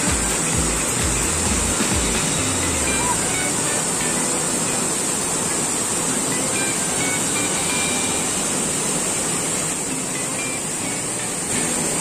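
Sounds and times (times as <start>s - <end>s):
rushing stream and waterfall: 0.0s - 12.0s
steady high-pitched whine: 0.0s - 12.0s.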